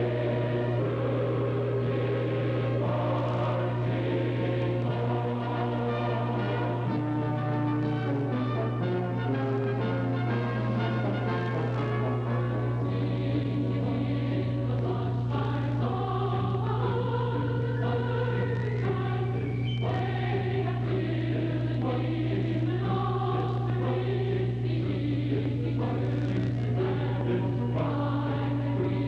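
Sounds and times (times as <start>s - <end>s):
choir singing held notes: 0.0s - 29.0s
steady low hum: 0.0s - 29.0s.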